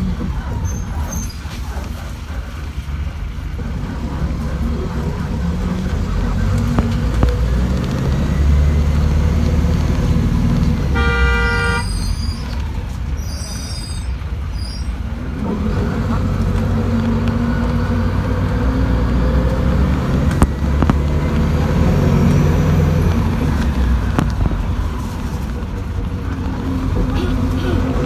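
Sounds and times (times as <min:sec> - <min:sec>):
bus engine rumble: 0:00.0 - 0:28.0
road noise: 0:00.0 - 0:28.0.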